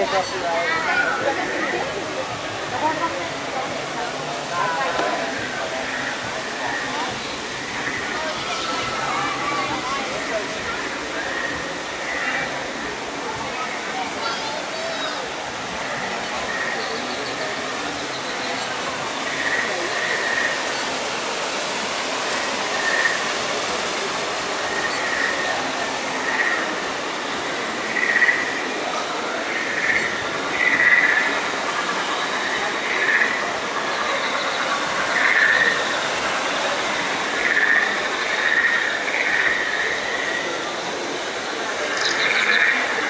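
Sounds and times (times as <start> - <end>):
water rushing from small waterfall: 0.0 - 43.0.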